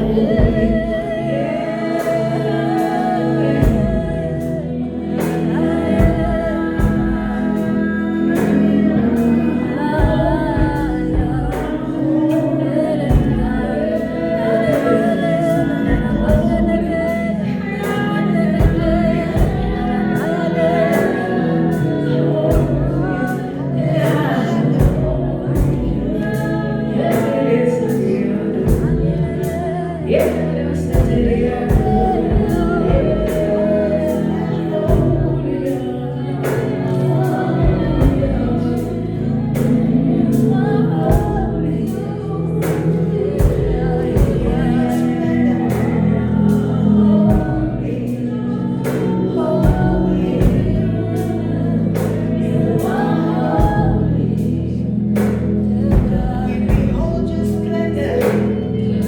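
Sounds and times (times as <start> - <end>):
gospel worship song: 0.0 - 59.0.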